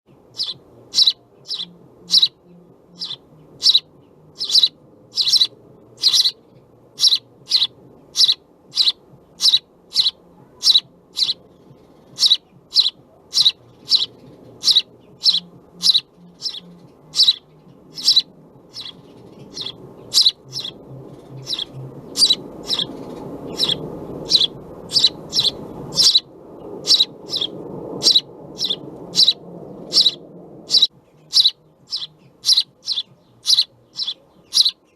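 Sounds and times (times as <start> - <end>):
low background rumble: 0.1 - 34.9
sparrow chirping: 0.2 - 34.9.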